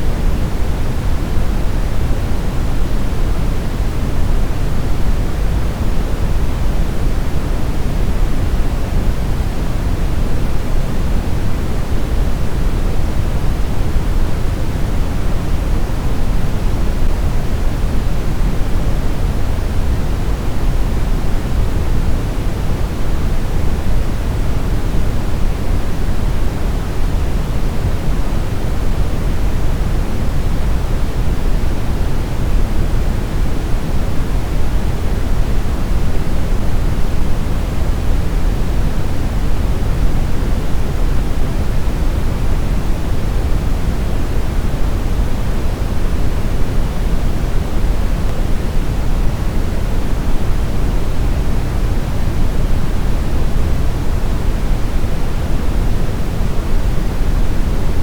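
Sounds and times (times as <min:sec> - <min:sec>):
steady brown noise rumble: 0:00.0 - 0:58.0.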